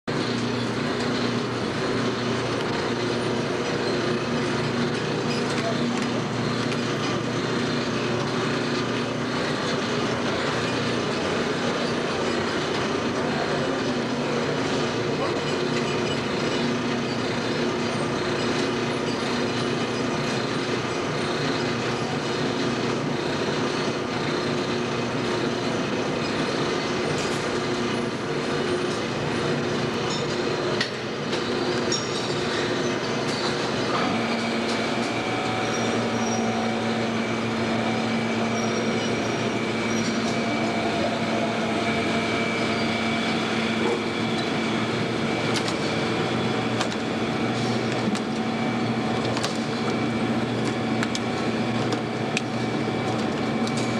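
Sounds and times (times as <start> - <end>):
bottling machine humming: 0.0 - 53.9
steady machine tone: 0.1 - 53.9.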